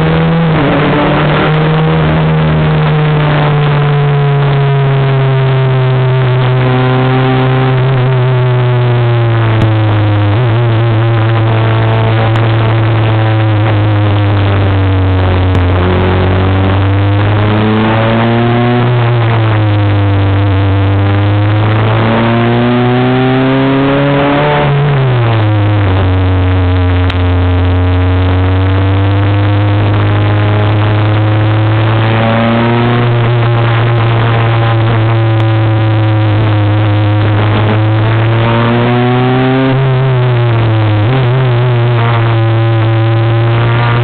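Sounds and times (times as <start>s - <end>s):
race car engine at high revs: 0.0s - 44.0s.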